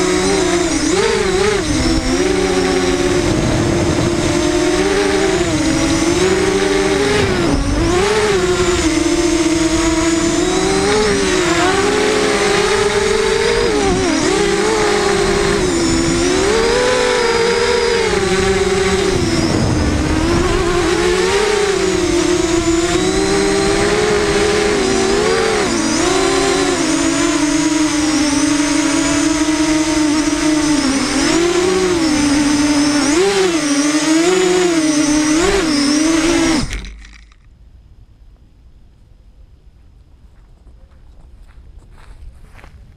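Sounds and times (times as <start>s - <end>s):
drone motors and propellers whining: 0.0s - 37.5s.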